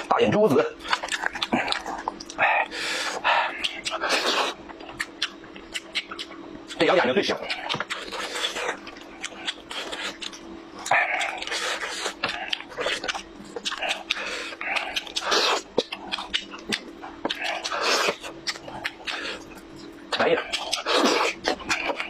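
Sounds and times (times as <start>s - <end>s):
faint steady hum: 0.0s - 22.0s
wet chewing and lip-smacking: 0.8s - 22.0s.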